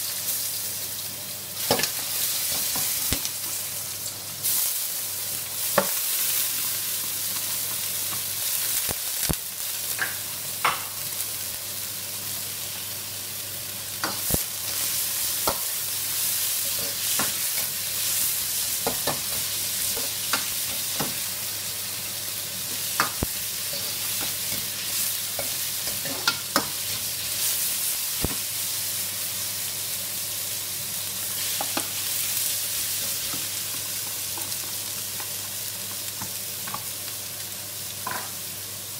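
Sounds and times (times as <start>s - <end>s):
vegetables sizzling in oil: 0.0s - 38.9s.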